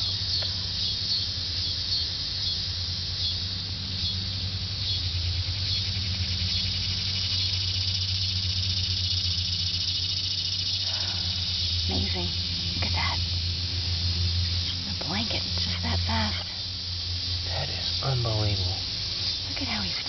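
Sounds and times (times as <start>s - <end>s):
insects chirping: 0.0s - 20.0s
steady low hum: 0.0s - 20.0s.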